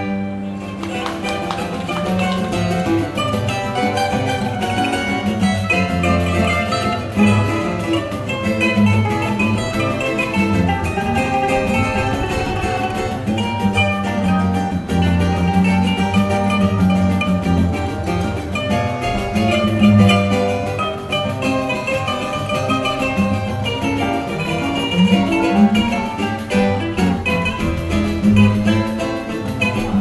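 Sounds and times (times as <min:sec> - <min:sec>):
instrumental group melody: 0:00.0 - 0:30.0
walking bass line: 0:00.2 - 0:30.0.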